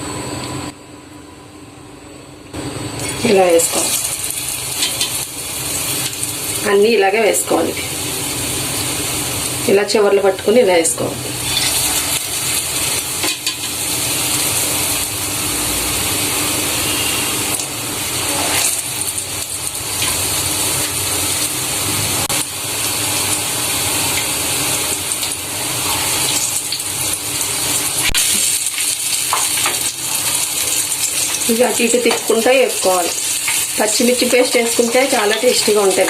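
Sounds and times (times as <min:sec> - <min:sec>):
deep-frying sizzle in hot oil: 0:02.8 - 0:36.0.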